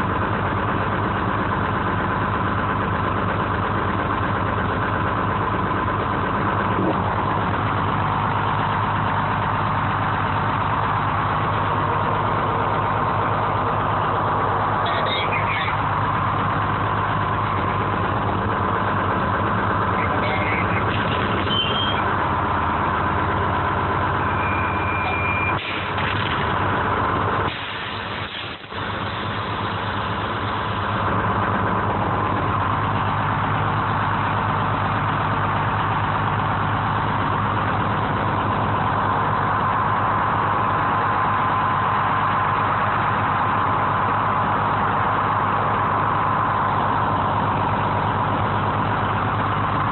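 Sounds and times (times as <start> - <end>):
crane engine running: 0.0 - 49.9.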